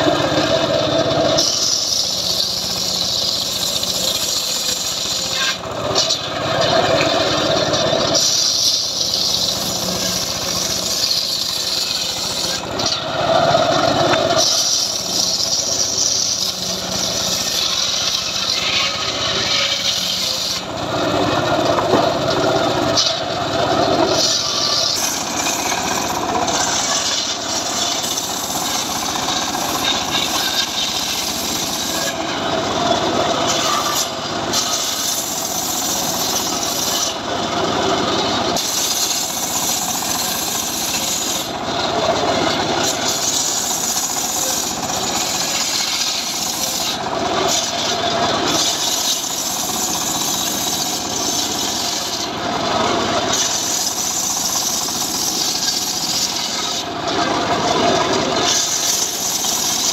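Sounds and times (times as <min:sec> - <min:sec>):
circular saw cutting logs: 0:00.0 - 0:59.9.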